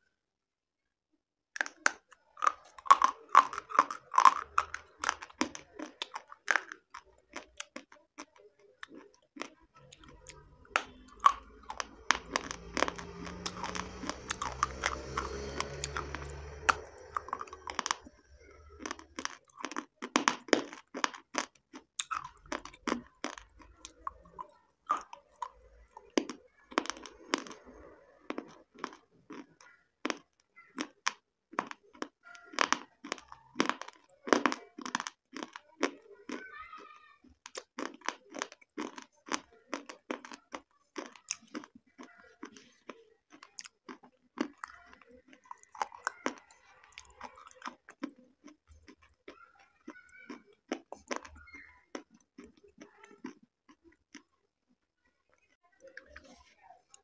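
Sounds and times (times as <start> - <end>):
crunchy chewing: 1.6 - 54.4.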